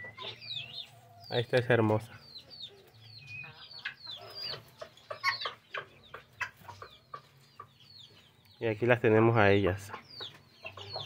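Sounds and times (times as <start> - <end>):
bird clucking calls: 0.0 - 8.6, 9.6 - 11.0
birds chirping: 0.0 - 11.0.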